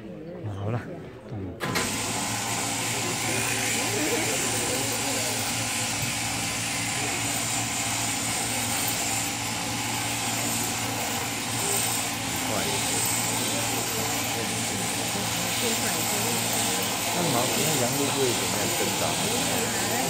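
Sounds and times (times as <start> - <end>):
sheep shearing handpiece drone: 1.6 - 20.0.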